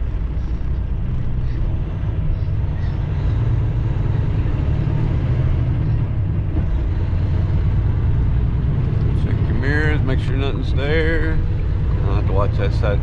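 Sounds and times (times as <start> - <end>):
road rumble: 0.0 - 13.0
truck diesel engine running: 0.0 - 13.0.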